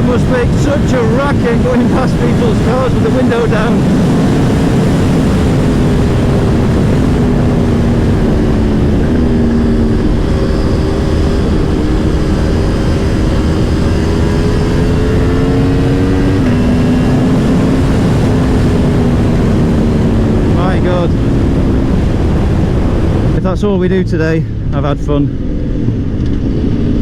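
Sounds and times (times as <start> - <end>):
motorcycle engine running: 0.0 - 27.0
wind roar on microphone: 0.0 - 27.0.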